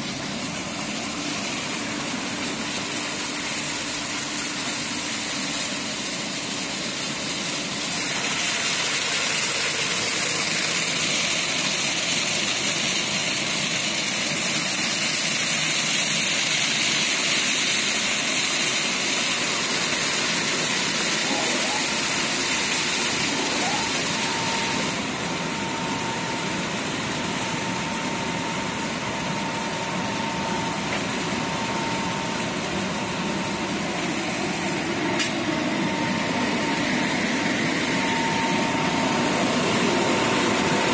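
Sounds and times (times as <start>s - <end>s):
car wash brushes and water spray: 0.0s - 40.9s
faint steady whine: 0.0s - 40.9s.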